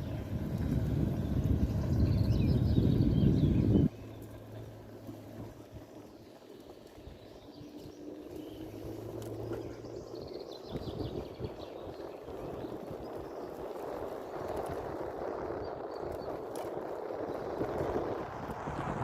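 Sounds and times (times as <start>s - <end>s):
low steady engine hum: 0.0s - 19.0s.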